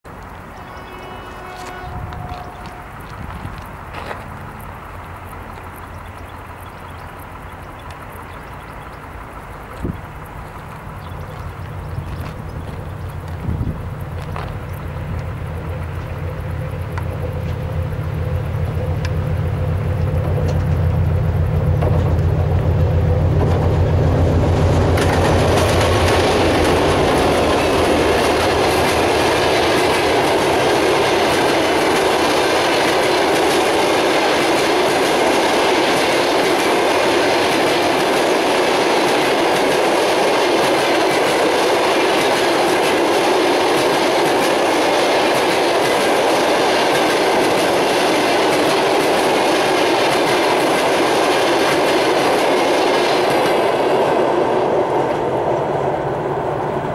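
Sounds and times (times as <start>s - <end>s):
diesel locomotive engine drone: 0.0s - 56.9s
train wheels rolling on rails: 0.1s - 56.9s.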